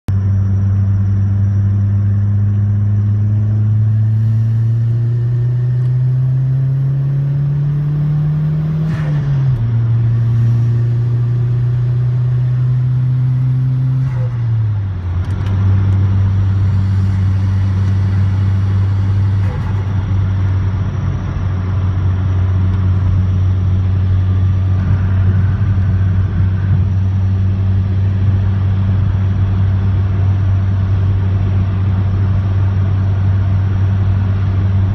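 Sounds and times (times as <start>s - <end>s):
gear shift pitch drop: 0.1s - 34.9s
car engine revving: 0.2s - 34.9s.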